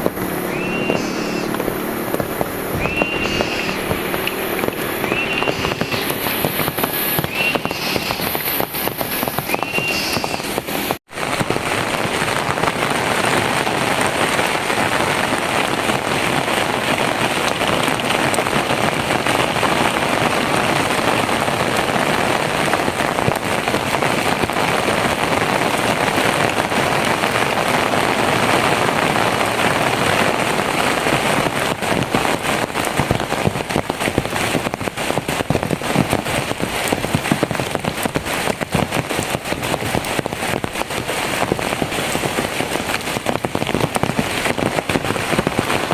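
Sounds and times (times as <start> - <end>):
close raindrop hits: 0.0 - 45.9
heavy rain falling: 0.0 - 45.9.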